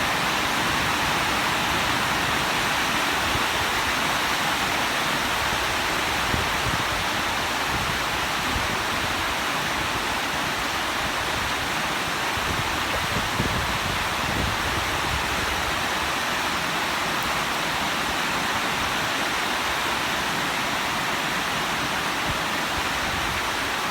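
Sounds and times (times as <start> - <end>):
rain falling steadily: 0.0 - 23.9.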